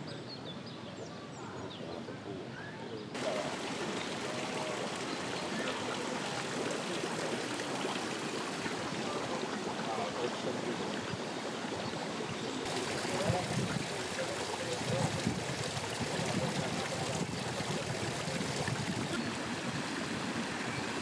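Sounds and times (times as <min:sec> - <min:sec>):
hot spring water rushing and bubbling: 0:03.1 - 0:21.0.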